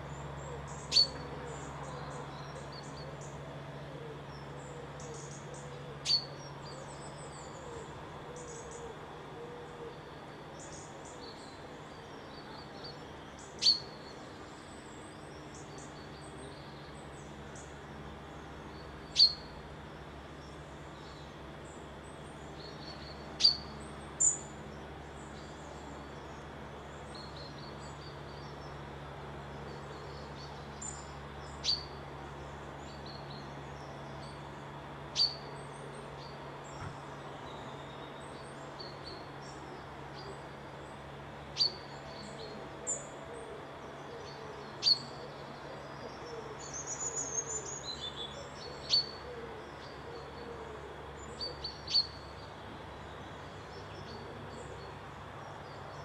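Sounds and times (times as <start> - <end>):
songbirds twittering faintly: 0.0 - 56.0
steady low hum: 0.0 - 56.0.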